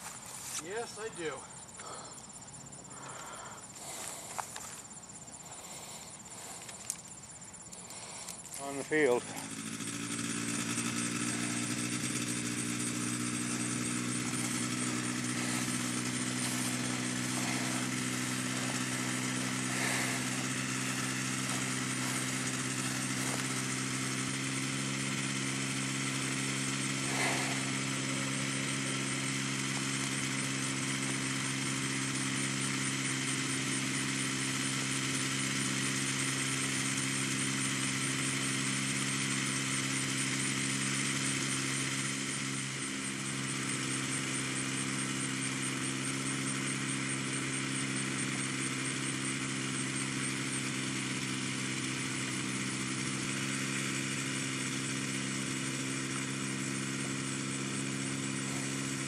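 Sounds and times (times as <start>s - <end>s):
small engine idling: 0.0s - 59.0s.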